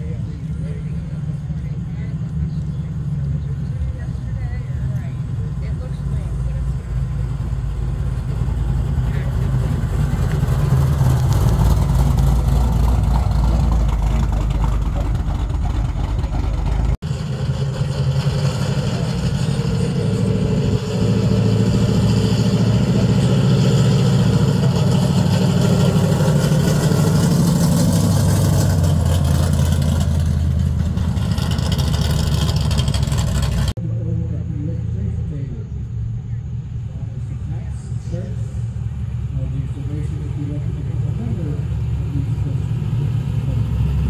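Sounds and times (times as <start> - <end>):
pickup truck engines driving past: 0.0 - 44.0.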